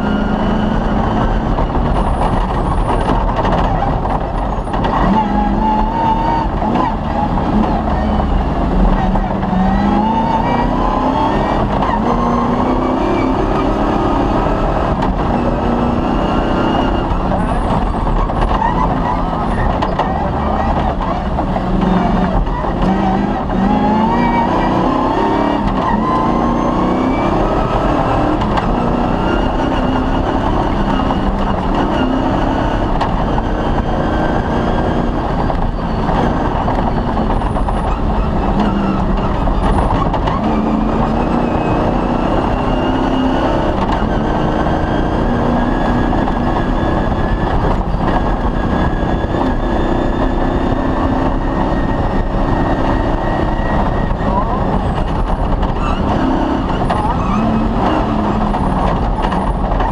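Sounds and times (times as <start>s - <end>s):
rally car engine running hard: 0.0s - 59.9s.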